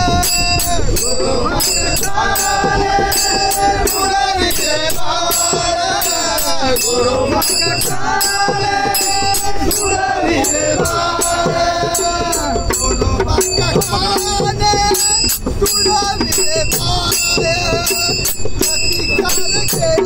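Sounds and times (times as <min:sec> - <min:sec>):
hand cymbals clashing: 0:00.0 - 0:20.0
man singing devotional song: 0:00.0 - 0:20.0.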